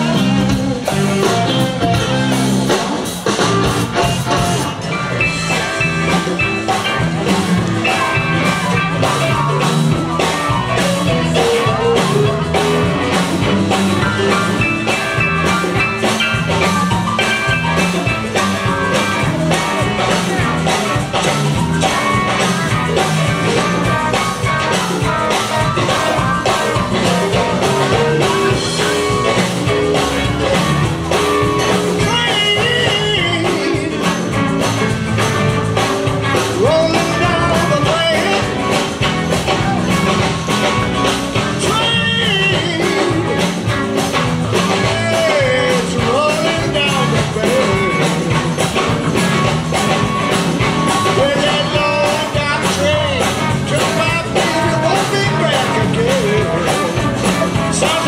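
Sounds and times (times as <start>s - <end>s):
drums steady beat: 0.0s - 58.0s
live band playing: 0.0s - 58.0s.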